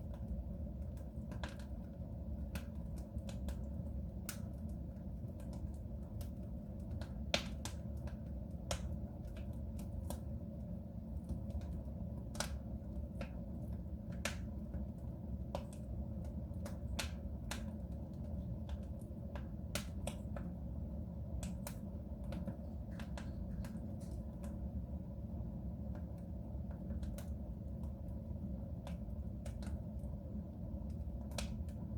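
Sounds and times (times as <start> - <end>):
low rumble of flames: 0.0 - 31.9
wood fire crackling: 0.0 - 31.9.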